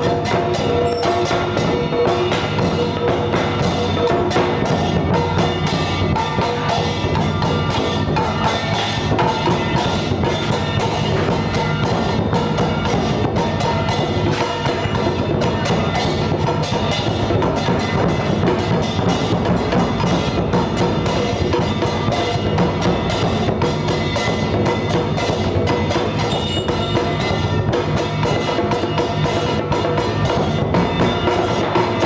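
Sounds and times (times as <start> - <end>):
drum: 0.0 - 32.0
ringing bells: 0.0 - 32.0
wood-block strikes: 0.0 - 32.0.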